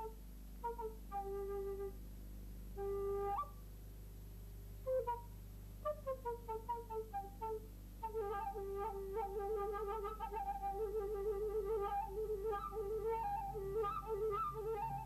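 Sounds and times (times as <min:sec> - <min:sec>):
solo flute-like instrument: 0:00.0 - 0:02.0, 0:02.7 - 0:03.6, 0:04.8 - 0:15.0.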